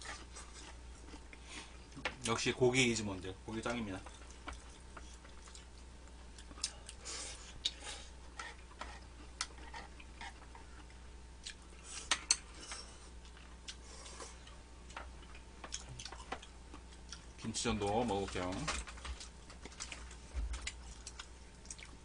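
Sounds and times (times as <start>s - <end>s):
soft chewing: 0.0s - 2.4s, 4.0s - 22.0s.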